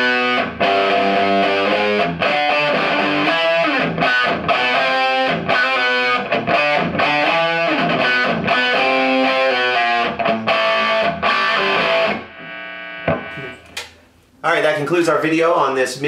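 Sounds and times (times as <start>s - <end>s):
electric guitar chords and riffs: 0.0s - 14.0s.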